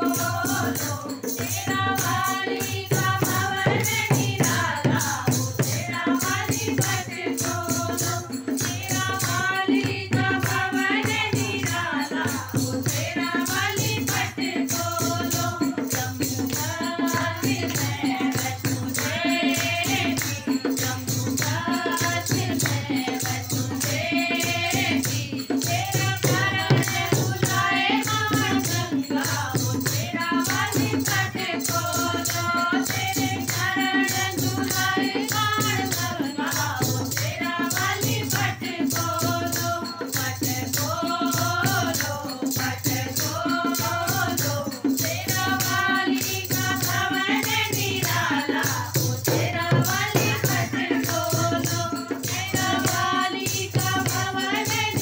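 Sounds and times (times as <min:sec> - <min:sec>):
hand drum: 0:00.0 - 0:55.0
women singing in unison: 0:00.0 - 0:55.0.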